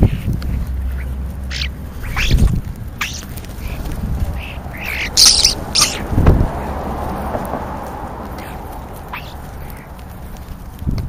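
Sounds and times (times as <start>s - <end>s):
starlings squawking: 0.0s - 7.0s, 8.2s - 10.3s.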